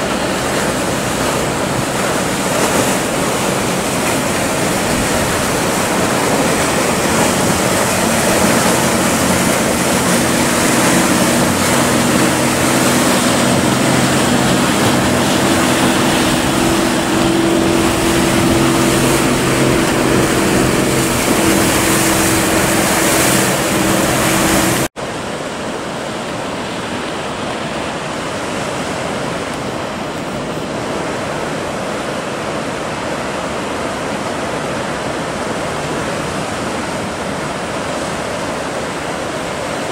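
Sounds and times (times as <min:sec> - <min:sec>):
motorboat engine drone: 0:00.0 - 0:39.9
waves and surf rushing: 0:00.0 - 0:39.9.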